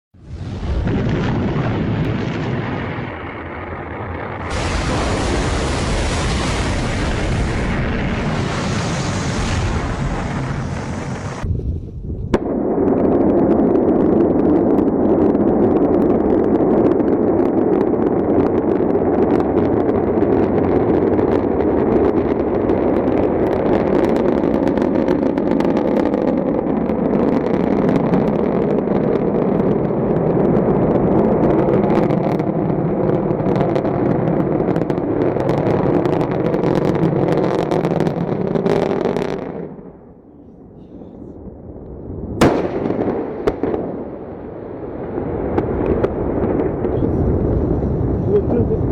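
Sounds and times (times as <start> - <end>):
rocket engine rumbling and crackling: 0.2 - 48.9.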